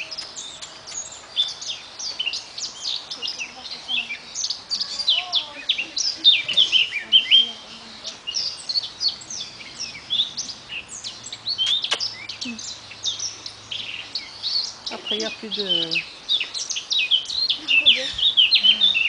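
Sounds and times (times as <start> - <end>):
monkeys chirping: 0.0 - 19.0.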